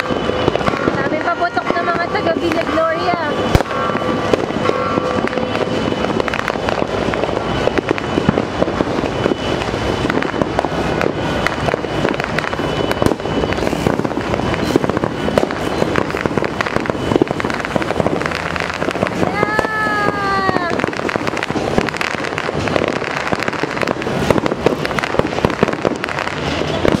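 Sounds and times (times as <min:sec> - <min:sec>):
firecrackers crackling: 0:00.0 - 0:27.0
loud firework reports: 0:00.0 - 0:27.0.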